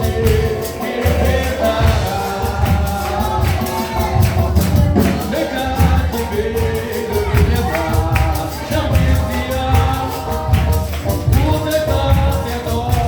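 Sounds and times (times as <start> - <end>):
bass line: 0.0 - 13.0
group singing: 0.0 - 13.0
percussion beat: 0.0 - 13.0.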